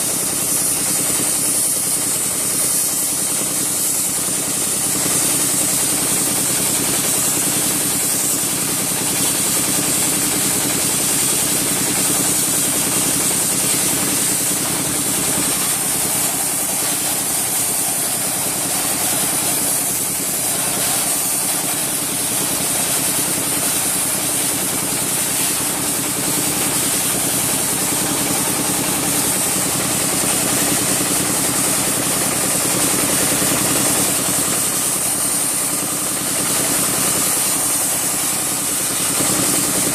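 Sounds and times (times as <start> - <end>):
engine running steadily: 0.0 - 39.9
sandblaster jet hissing: 0.0 - 39.9.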